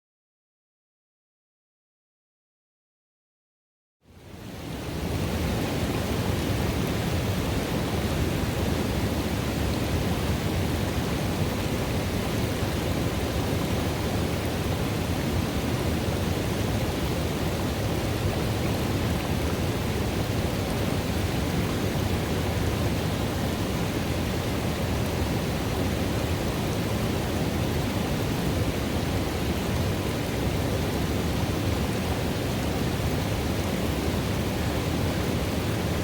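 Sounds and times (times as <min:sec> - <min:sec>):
river water rushing: 0:04.2 - 0:36.0.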